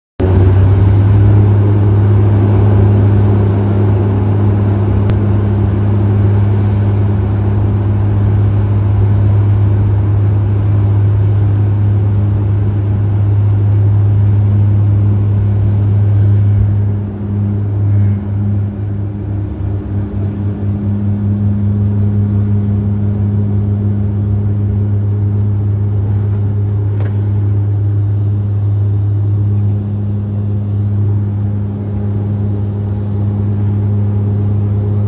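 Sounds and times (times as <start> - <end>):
propeller plane engines droning: 0.2 - 35.0.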